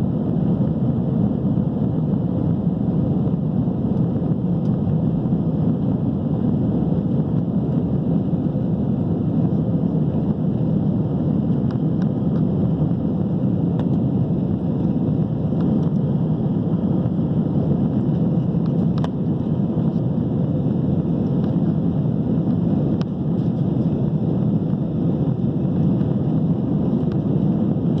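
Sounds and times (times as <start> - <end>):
airliner cabin low roar: 0.0 - 28.0.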